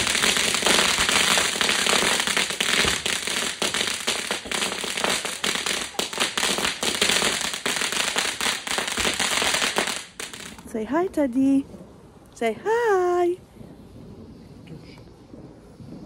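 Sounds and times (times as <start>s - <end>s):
ground firework crackling: 0.0s - 16.0s.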